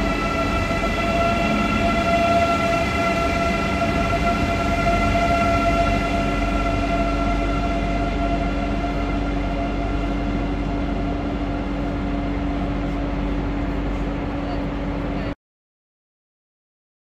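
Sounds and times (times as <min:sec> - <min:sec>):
electric train whine and rumble: 0:00.0 - 0:15.4.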